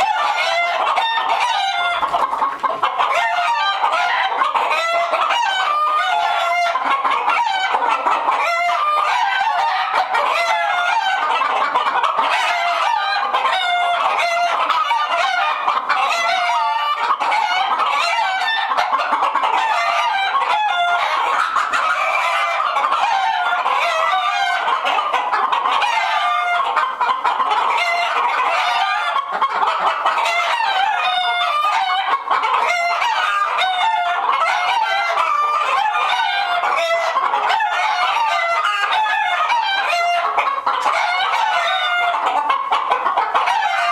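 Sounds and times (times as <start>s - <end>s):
hens clucking and squawking: 0.0s - 43.9s.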